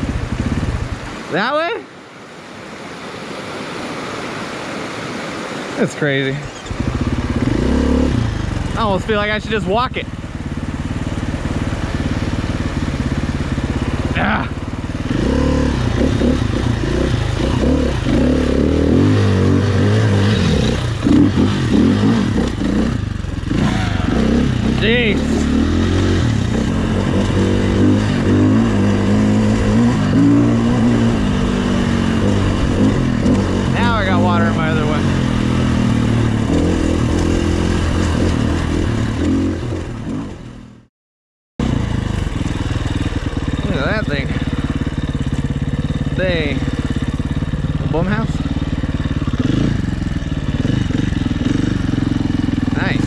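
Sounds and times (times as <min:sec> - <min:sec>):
dirt bike engine revving: 0:00.0 - 0:01.7, 0:04.8 - 0:40.8, 0:41.6 - 0:53.0.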